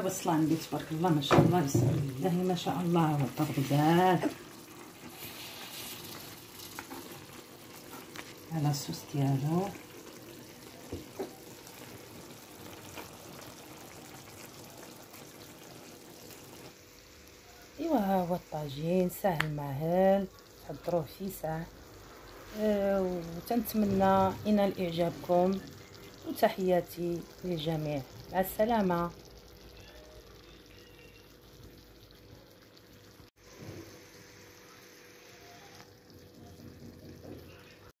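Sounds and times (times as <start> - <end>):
sauce simmering: 0.0 - 37.9.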